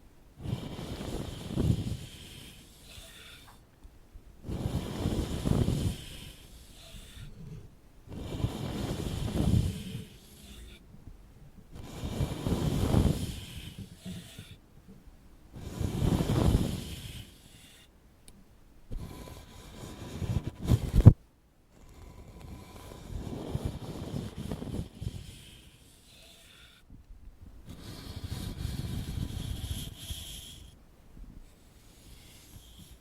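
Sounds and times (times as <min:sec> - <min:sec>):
ear pick scraping microphone: 0:00.4 - 0:03.6, 0:04.4 - 0:11.0, 0:11.7 - 0:14.6, 0:15.6 - 0:17.9, 0:18.9 - 0:21.2, 0:22.1 - 0:26.8, 0:27.7 - 0:30.8, 0:31.4 - 0:33.0.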